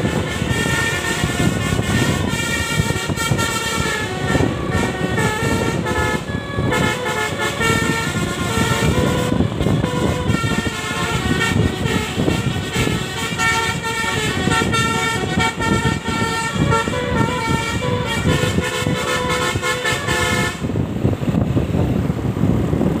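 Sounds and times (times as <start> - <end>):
vehicle horns sounding: 0.0 - 20.8
traffic rumble: 0.0 - 23.0.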